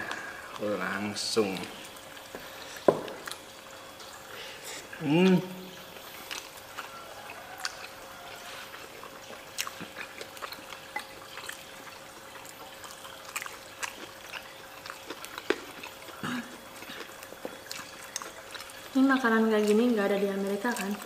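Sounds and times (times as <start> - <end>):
faint steady hum: 0.0 - 21.0
wet chewing and lip smacks: 1.5 - 21.0.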